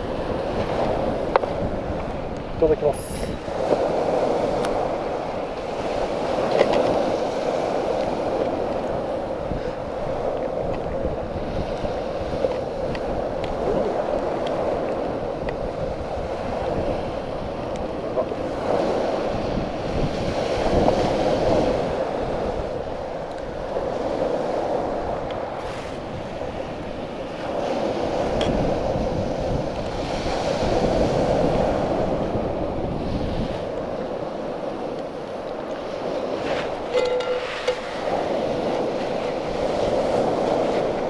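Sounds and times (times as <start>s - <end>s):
surf washing on shore: 0.0s - 41.0s
wind on microphone: 0.0s - 41.0s.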